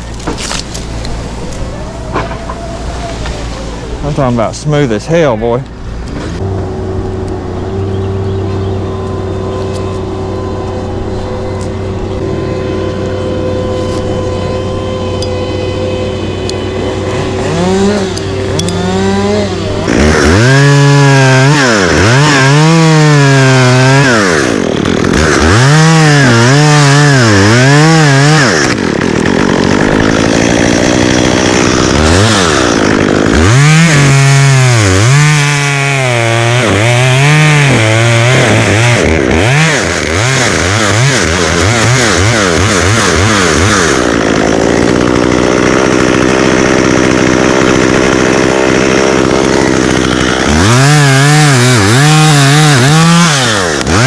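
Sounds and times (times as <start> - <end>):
chainsaw cutting wood: 0.0 - 1.2, 6.0 - 7.5, 8.8 - 54.0.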